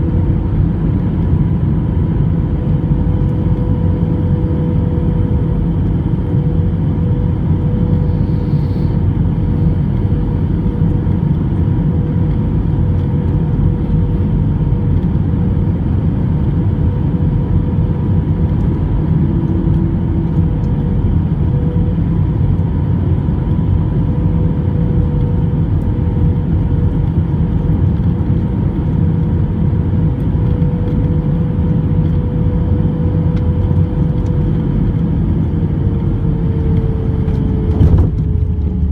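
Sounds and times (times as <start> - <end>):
jet airliner engine drone: 0.0 - 38.9.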